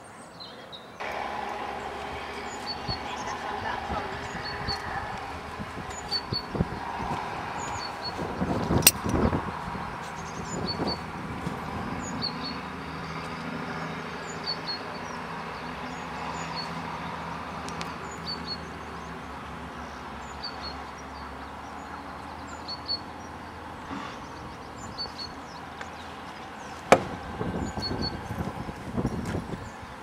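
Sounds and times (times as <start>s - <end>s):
distant engine hum: 1.0s - 30.0s.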